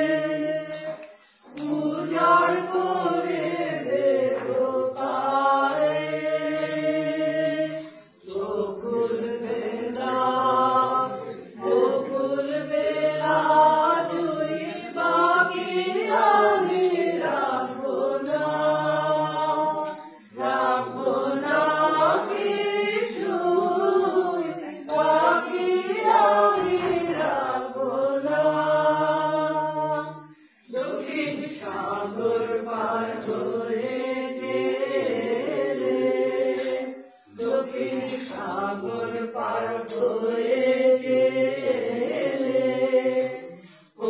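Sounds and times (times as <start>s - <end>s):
group of voices singing: 0.0s - 44.0s.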